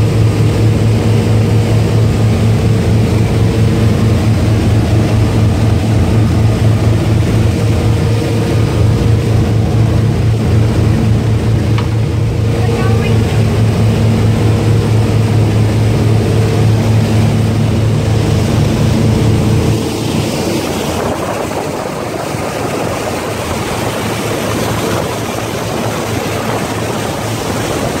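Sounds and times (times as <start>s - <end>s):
boat engines droning: 0.0s - 28.0s
rush of boat wake and spray: 0.0s - 28.0s
wind: 0.0s - 28.0s.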